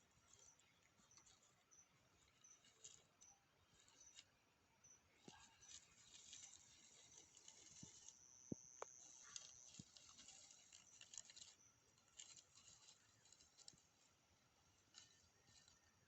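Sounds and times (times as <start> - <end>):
rustling in dry leaves: 0.0 - 4.3, 5.1 - 16.0.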